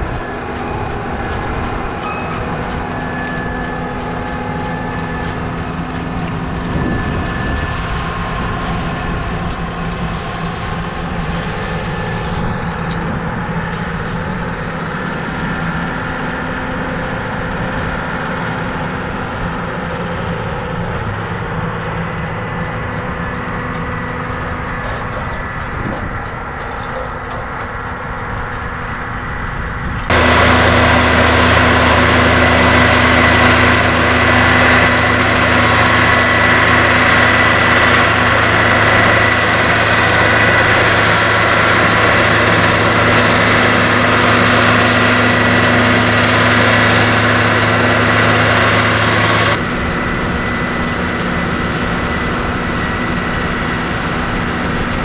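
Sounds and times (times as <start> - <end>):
steady whine: 0.0 - 55.0
tractor diesel engine running: 0.0 - 55.0.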